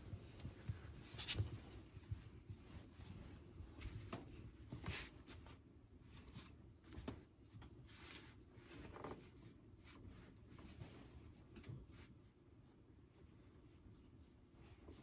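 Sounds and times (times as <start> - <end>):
soft rustles: 0.0 - 15.0.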